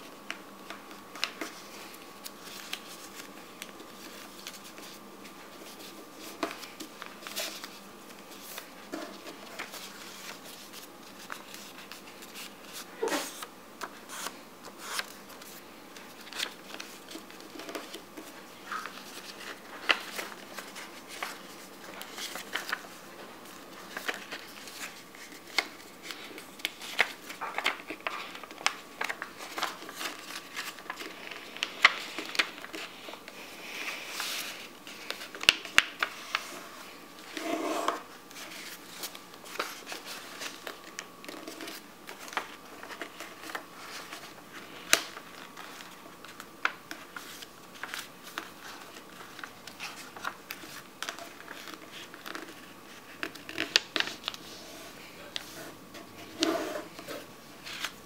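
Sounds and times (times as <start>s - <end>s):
paper folding and crinkling: 0.0s - 58.0s.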